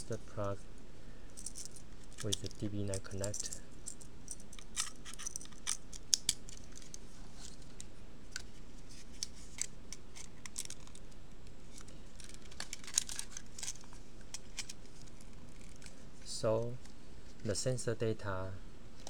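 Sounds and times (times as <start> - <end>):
connectors clicking and scraping: 1.3 - 17.5.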